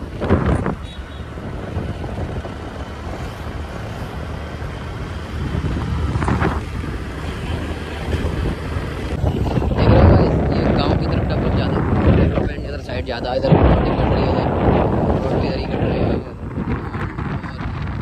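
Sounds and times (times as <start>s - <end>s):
scooter engine and road rumble: 0.0s - 18.0s
wind rushing over microphone: 0.0s - 18.0s.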